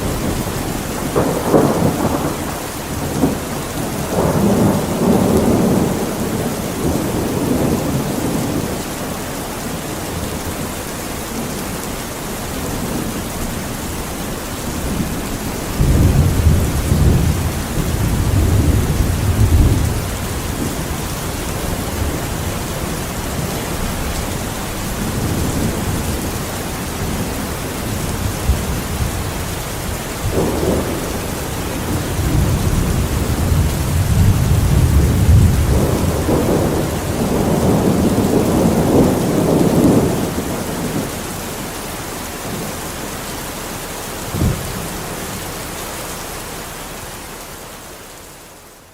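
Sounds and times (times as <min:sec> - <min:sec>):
thunder rumbling: 0:00.0 - 0:45.8
rain hissing: 0:00.0 - 0:48.9.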